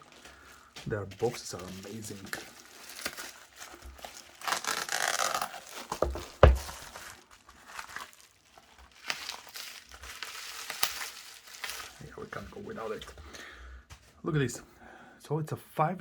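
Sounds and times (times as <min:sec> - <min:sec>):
packaging rustling and crinkling: 0:00.0 - 0:13.2.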